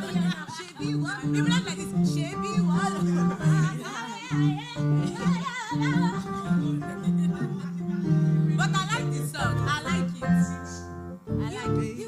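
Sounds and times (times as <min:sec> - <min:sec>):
person singing wordless melody: 0:00.0 - 0:12.0.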